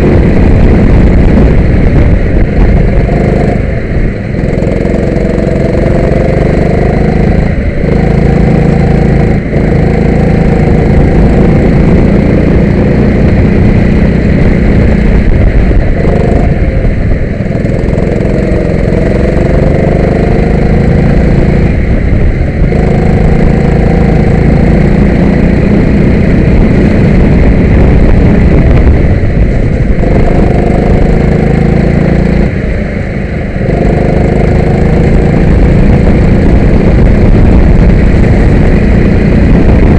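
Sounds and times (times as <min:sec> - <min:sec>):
go-kart engine accelerating: 0:02.7 - 0:03.7, 0:04.4 - 0:32.7, 0:33.4 - 0:39.9.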